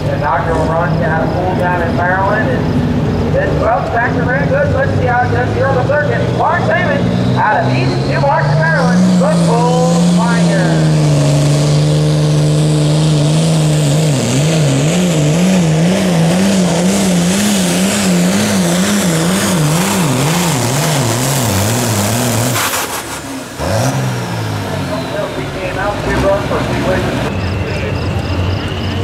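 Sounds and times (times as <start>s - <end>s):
tractor diesel engine surging: 0.0s - 29.0s.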